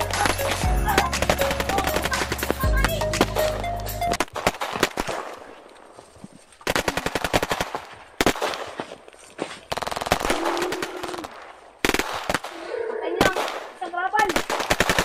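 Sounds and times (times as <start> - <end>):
machine-gun fire: 0.0 - 5.5, 6.6 - 8.7, 9.7 - 12.6, 13.2 - 15.0.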